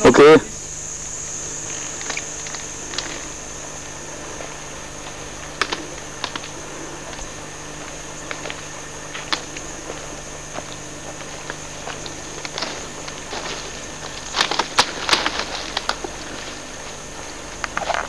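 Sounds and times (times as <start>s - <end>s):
insects droning: 0.0s - 18.0s
dry leaves and twigs crackling: 0.6s - 18.0s.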